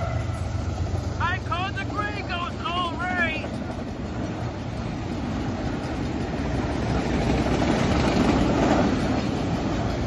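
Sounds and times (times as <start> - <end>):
freight train wheels rumbling on rail: 0.0 - 10.0.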